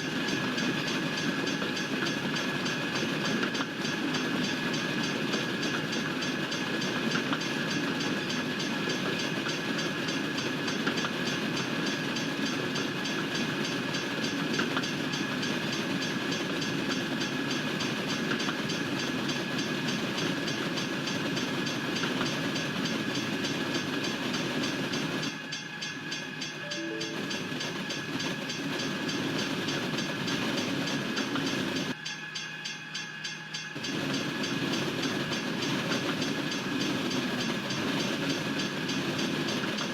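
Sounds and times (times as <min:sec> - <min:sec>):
freight train rumble: 0:00.0 - 0:39.9
train wheel clatter: 0:00.0 - 0:39.9.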